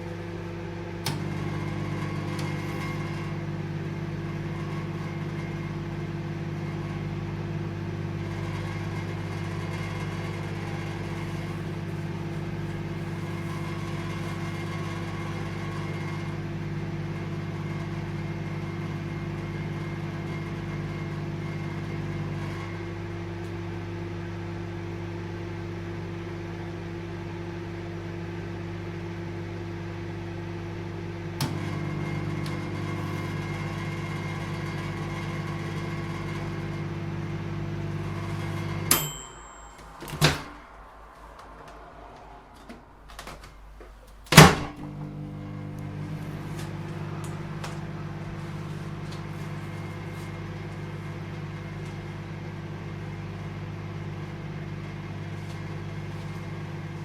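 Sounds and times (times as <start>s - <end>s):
microwave oven humming: 0.0s - 57.0s.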